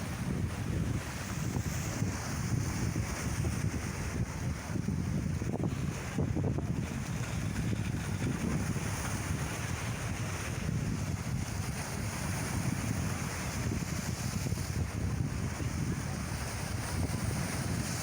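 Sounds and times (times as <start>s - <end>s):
sea waves washing: 0.0s - 18.0s
wind buffeting microphone: 0.0s - 18.0s.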